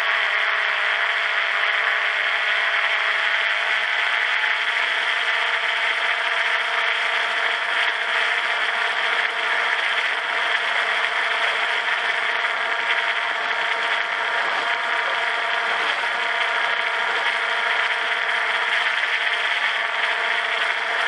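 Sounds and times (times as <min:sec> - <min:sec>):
drone propellers whirring: 0:00.0 - 0:21.0.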